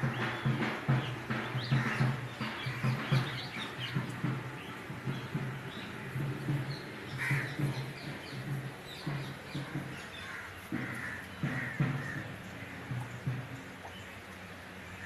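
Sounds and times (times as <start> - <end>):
birds harsh calls: 0.0 - 15.0.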